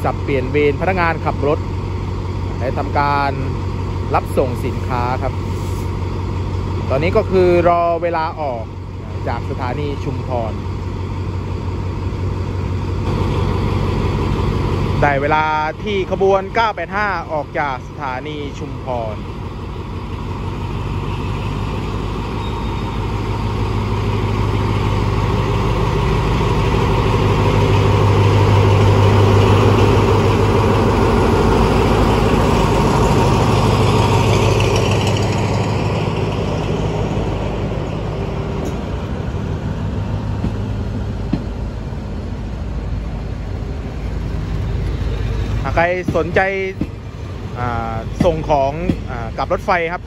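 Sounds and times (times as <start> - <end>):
diesel locomotive engine drone: 0.0 - 50.0
train vans rolling by: 0.0 - 50.0.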